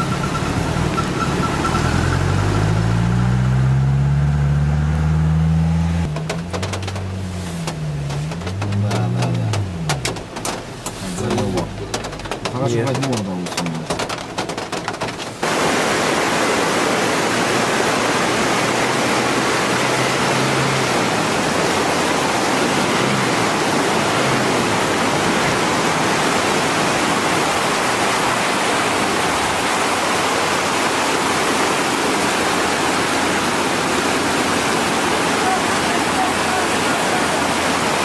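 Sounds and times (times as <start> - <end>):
fast-flowing water rushing: 6.1 - 38.0.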